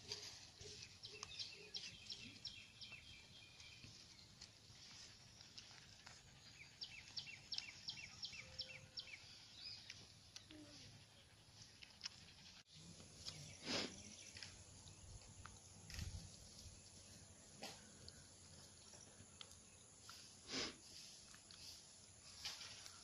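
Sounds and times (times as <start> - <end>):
bird chirping: 0.0 - 20.3.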